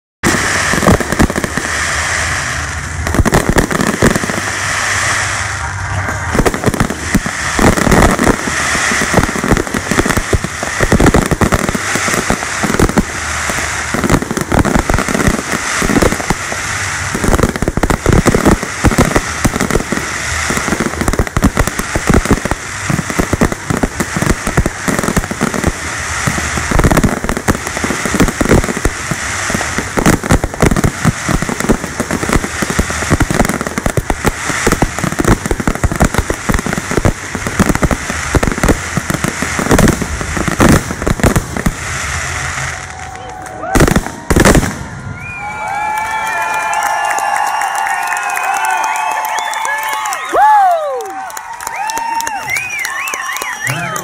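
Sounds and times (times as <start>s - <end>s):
fireworks bursting: 0.2s - 54.0s
fireworks crackle: 0.2s - 54.0s.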